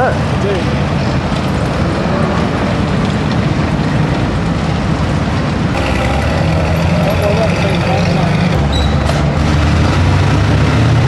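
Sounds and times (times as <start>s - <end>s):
military vehicle engines rumbling: 0.0s - 11.0s.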